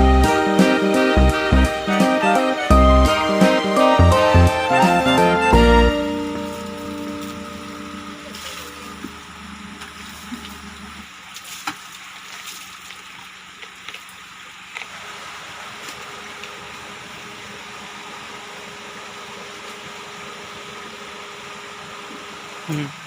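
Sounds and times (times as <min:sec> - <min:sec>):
water flowing: 0:03.1 - 0:22.1.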